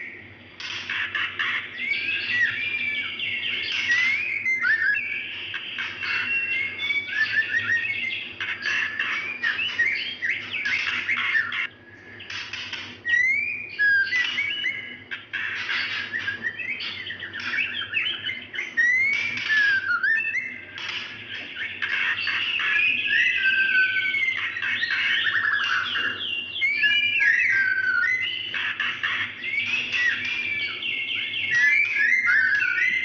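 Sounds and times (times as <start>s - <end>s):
bird whistles and scratchy notes: 0.0s - 33.0s.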